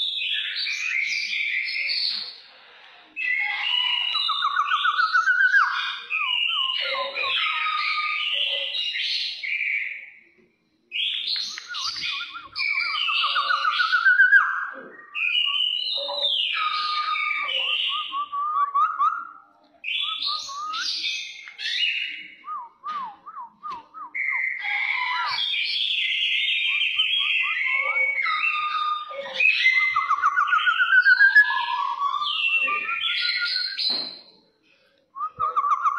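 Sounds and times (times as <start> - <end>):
bird singing whistled phrases: 0.0 - 2.4, 3.2 - 10.2, 10.9 - 34.4, 35.2 - 35.9.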